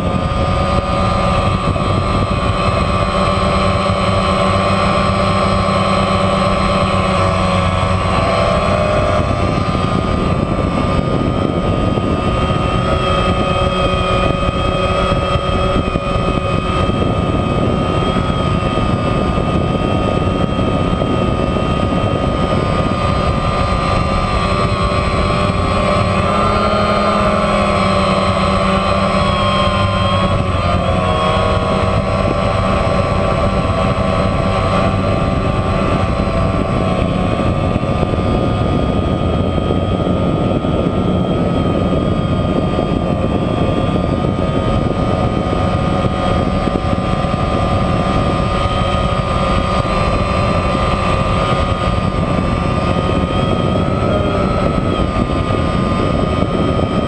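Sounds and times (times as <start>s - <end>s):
drone propellers buzzing: 0.0s - 57.0s
prop wash rumble: 0.0s - 57.0s.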